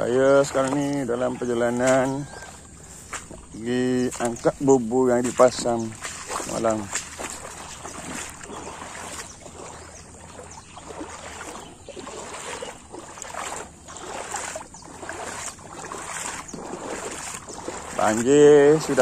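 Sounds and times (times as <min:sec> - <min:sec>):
footsteps splashing through water: 0:00.0 - 0:19.0.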